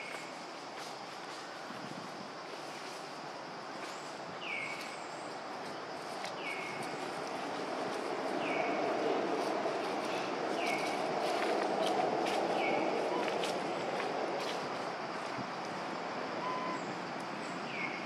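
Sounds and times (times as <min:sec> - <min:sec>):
outdoor background hum: 0:00.0 - 0:18.0.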